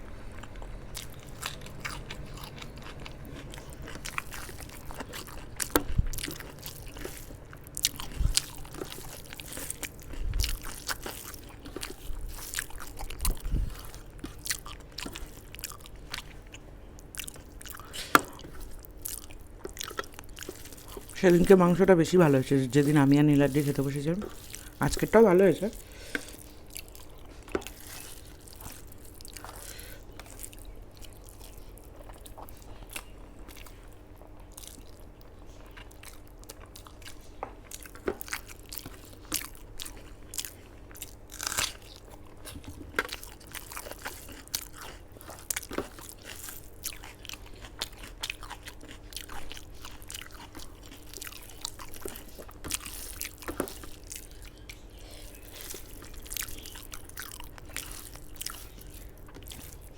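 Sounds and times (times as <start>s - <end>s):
faint steady hum: 0.0s - 59.9s
person chewing crunchy food: 0.0s - 59.9s.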